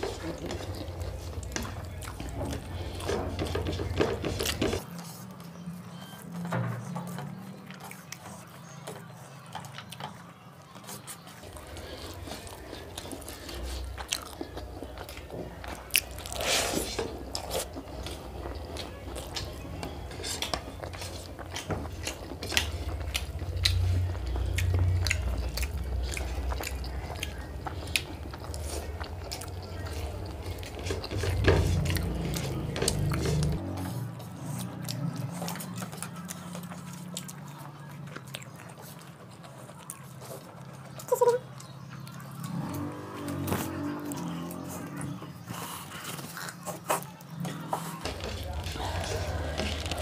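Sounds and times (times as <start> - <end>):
chewing and wet mouth sounds: 0.0 - 6.4, 7.0 - 50.0
fingers and rice clicking on plates: 0.0 - 50.0.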